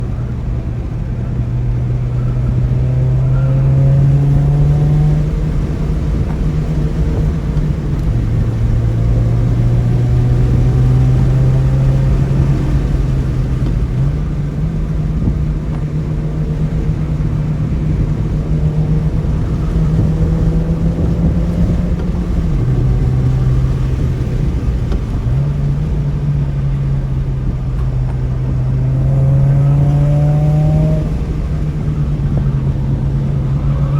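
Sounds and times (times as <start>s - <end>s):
car engine rumbling: 0.0s - 33.9s
wind noise: 0.0s - 33.9s.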